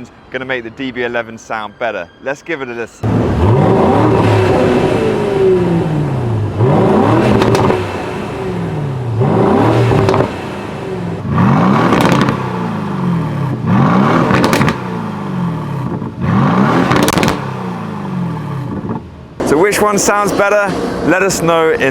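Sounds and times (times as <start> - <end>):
exhaust cracks: 3.0 - 21.9
sports car engine revving: 3.0 - 21.9.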